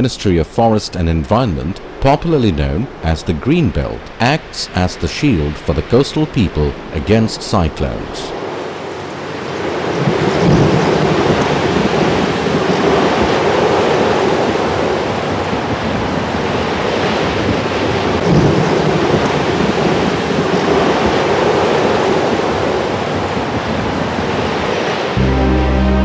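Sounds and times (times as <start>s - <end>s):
strong gusting wind: 0.0s - 25.2s
rain: 0.8s - 26.0s.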